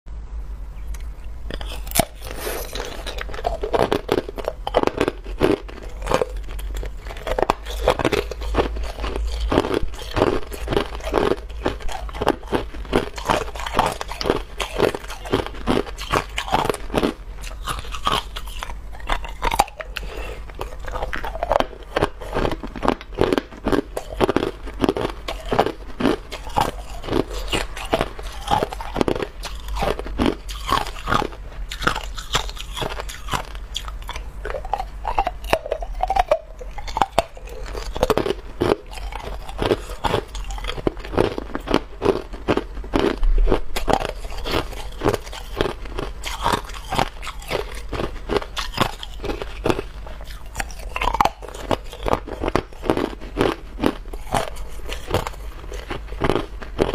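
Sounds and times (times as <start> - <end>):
person chewing hard ice: 0.8 - 56.9.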